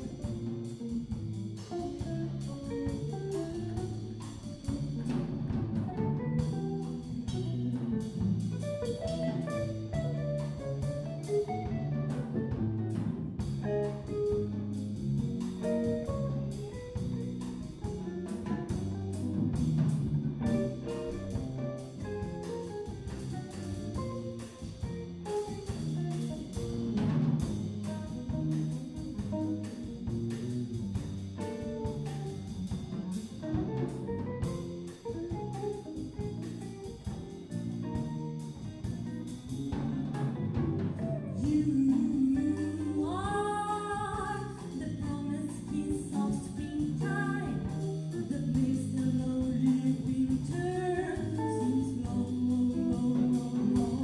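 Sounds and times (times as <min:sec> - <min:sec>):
jazz band playing swing: 0:00.0 - 0:54.0.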